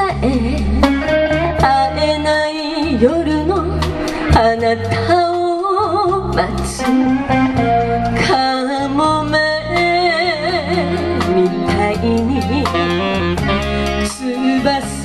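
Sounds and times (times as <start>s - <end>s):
woman singing with vibrato: 0.0s - 7.2s, 8.2s - 13.0s, 14.0s - 15.0s
bass guitar: 0.0s - 15.0s
drum kit: 0.0s - 15.0s
electric guitar: 0.0s - 15.0s.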